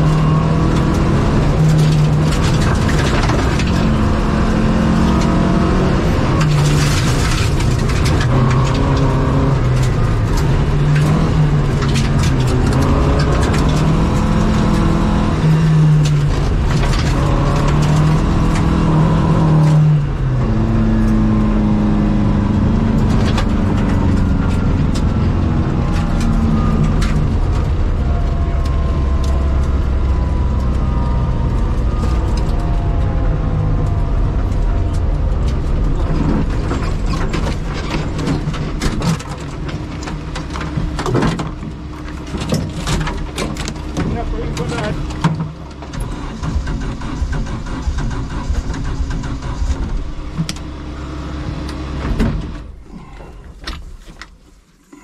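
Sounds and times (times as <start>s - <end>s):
gravel rattling against car underside: 0.0s - 21.2s, 22.6s - 55.0s
car engine at speed: 0.0s - 55.0s.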